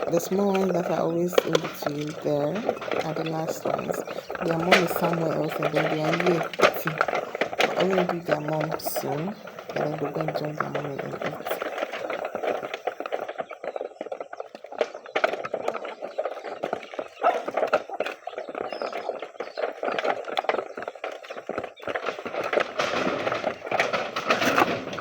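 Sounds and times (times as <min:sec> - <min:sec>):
animals pecking feed taps and rustles: 0:00.0 - 0:25.0.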